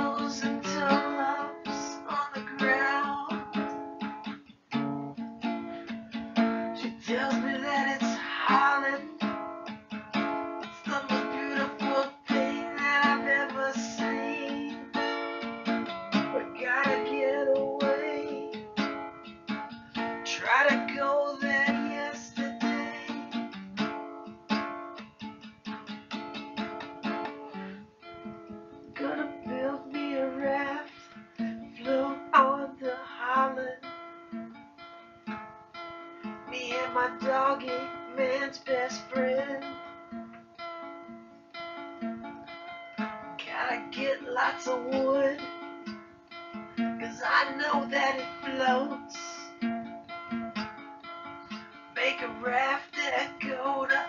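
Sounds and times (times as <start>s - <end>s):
acoustic guitar song: 0.0s - 54.0s.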